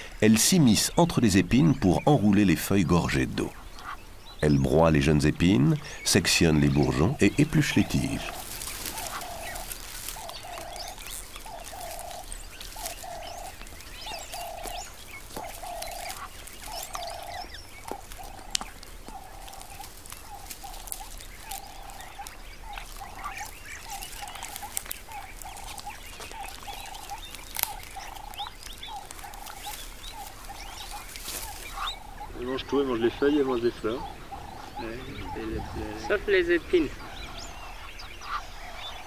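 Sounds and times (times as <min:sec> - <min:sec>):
twigs and leaves crackling: 0:00.0 - 0:39.0.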